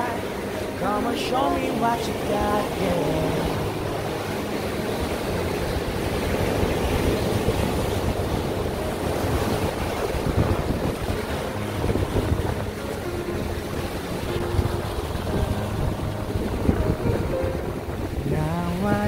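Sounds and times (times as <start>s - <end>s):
waves breaking on rocks: 0.0s - 19.0s
wind buffeting microphone: 3.2s - 19.0s.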